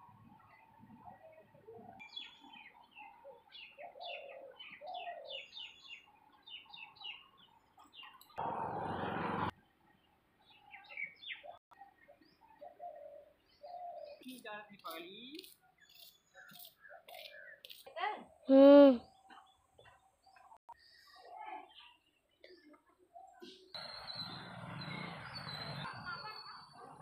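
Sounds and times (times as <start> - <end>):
small birds chirping: 0.4 - 9.0, 9.6 - 27.0.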